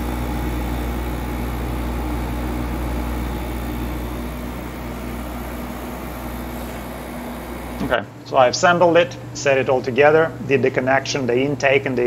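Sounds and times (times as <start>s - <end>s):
air conditioner compressor hum: 0.0s - 12.0s
fan rushing: 0.0s - 12.0s.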